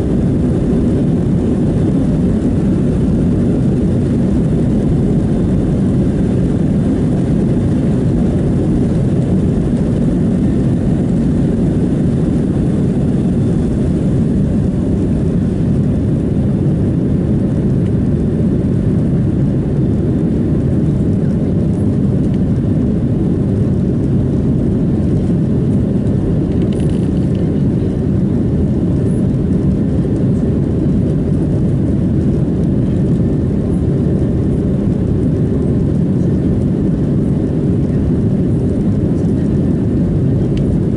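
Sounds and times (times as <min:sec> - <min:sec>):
airplane cabin roar: 0:00.0 - 0:40.9.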